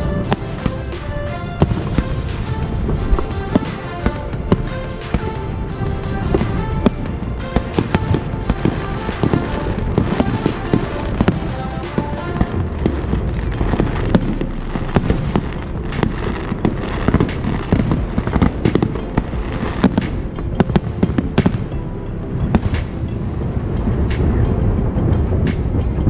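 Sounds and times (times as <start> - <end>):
fireworks bangs and crackles: 0.0 - 21.8, 22.4 - 26.0.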